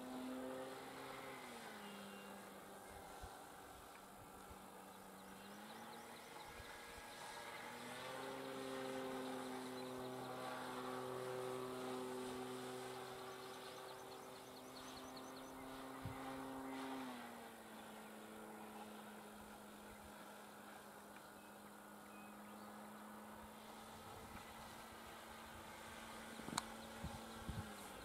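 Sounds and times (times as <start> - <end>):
model plane propeller droning: 0.0 - 28.0.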